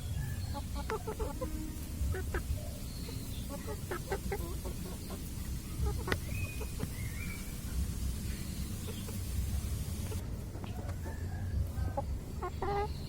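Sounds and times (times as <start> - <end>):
chickens clucking: 0.0 - 13.0
steady low rumble: 0.0 - 13.0.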